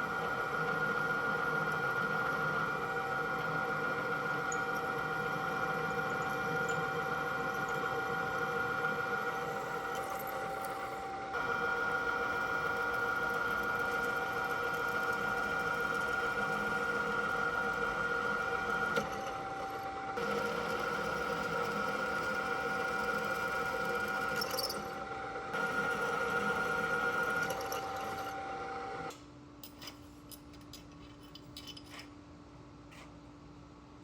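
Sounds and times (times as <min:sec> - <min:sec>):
machine tool whining: 0:00.0 - 0:29.1.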